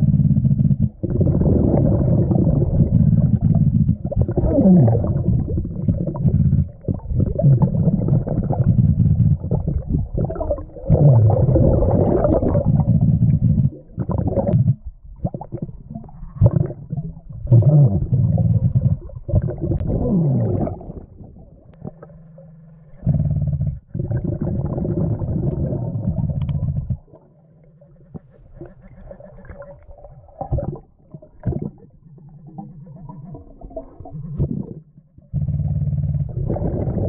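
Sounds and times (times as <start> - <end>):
muffled underwater rumbling: 0.0 - 37.0
steady low hum: 0.0 - 37.0
underwater air bubbles gurgling: 0.0 - 37.0.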